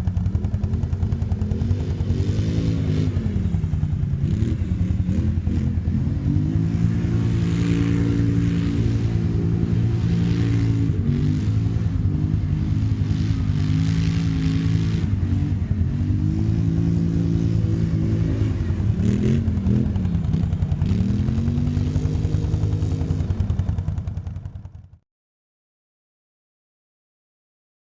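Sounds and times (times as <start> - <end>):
quad engine revving: 0.0 - 25.0.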